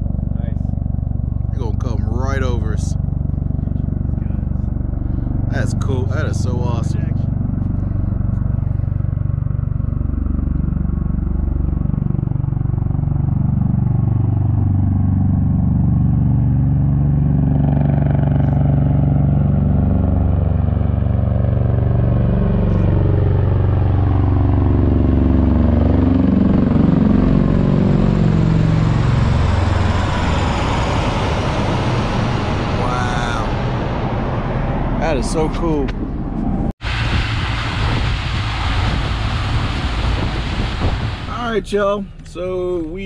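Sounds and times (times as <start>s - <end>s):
tiltrotor aircraft rotor drone: 0.0s - 43.0s.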